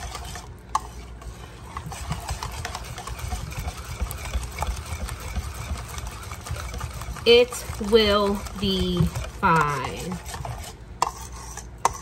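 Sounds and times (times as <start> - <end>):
whisk beating batter: 0.0 - 12.0
whisk clinking against bowl: 0.0 - 12.0.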